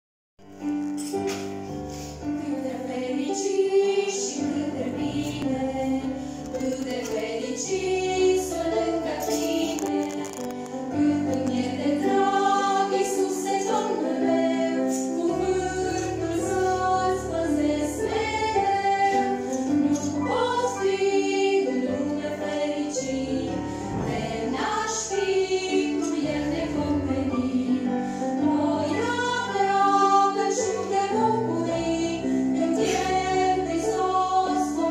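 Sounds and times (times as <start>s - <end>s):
women singing through microphones: 2.4s - 34.9s.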